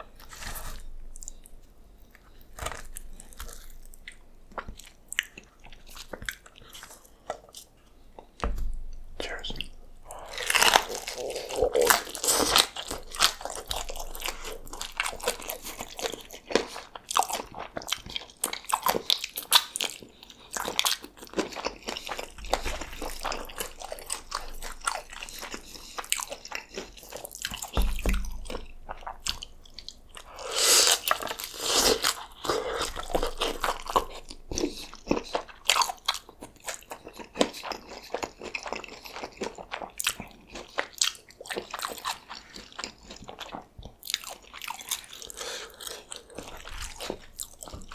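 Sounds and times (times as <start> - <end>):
crunching and chewing tacos: 0.0 - 47.9.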